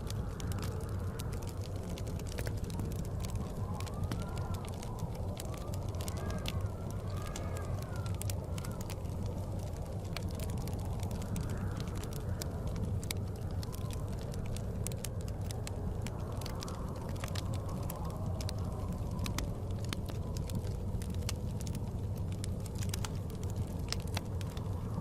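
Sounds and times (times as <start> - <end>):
blizzard wind rushing: 0.0 - 25.0
wood fire crackling and popping: 0.0 - 25.0.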